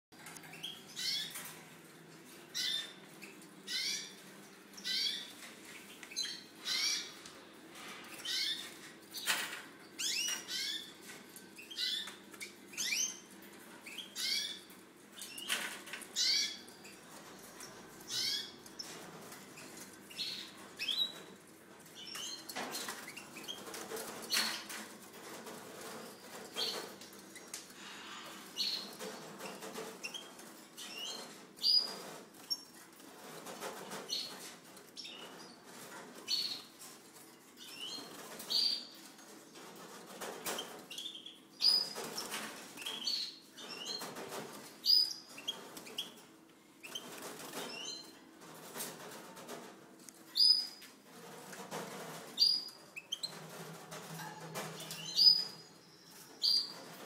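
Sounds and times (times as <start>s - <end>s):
caged birds chirping: 0.2s - 57.0s.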